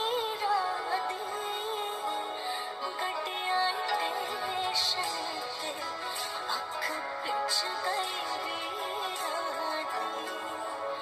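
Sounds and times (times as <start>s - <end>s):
recorded dance song: 0.0s - 11.0s.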